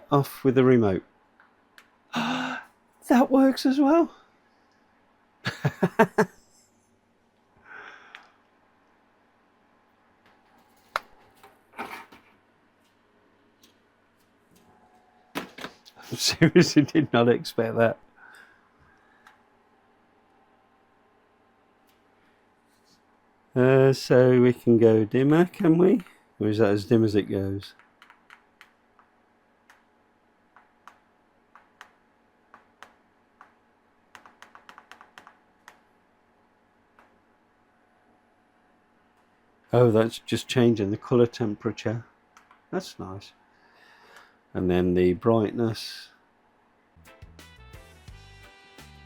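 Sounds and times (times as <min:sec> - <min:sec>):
faint steady hum: 0:00.0 - 0:47.2.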